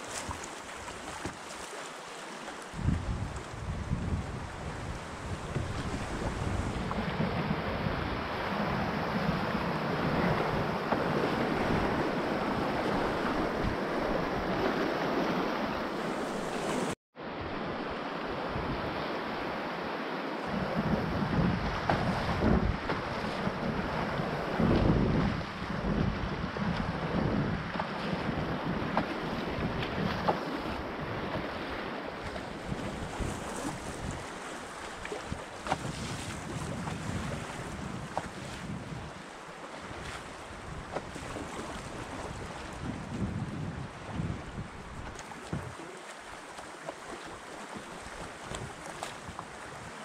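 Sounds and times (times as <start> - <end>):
rushing river water: 0.0 - 50.0
wind on microphone: 2.7 - 19.5, 20.4 - 46.0, 47.0 - 50.0.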